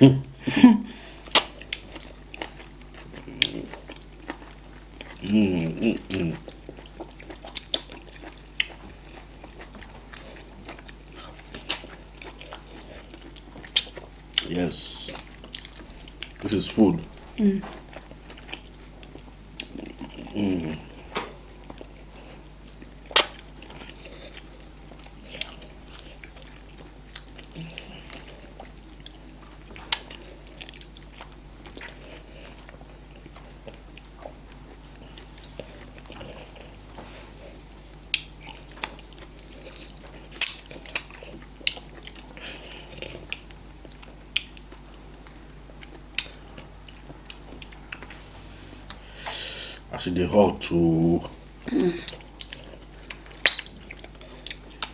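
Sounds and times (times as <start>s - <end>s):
low steady hum: 0.0s - 54.9s
wet chewing and mouth smacks: 1.2s - 5.3s, 5.9s - 16.5s, 17.1s - 20.4s, 21.2s - 49.8s, 52.0s - 54.9s.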